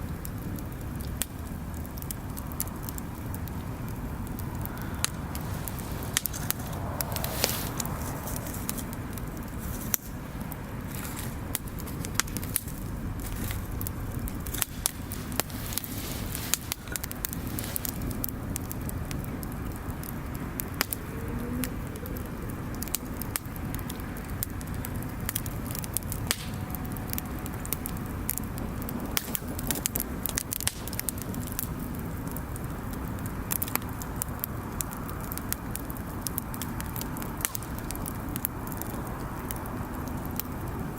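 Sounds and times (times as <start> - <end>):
bonfire crackling and popping: 0.0 - 40.9
fire low rumble: 0.0 - 40.9.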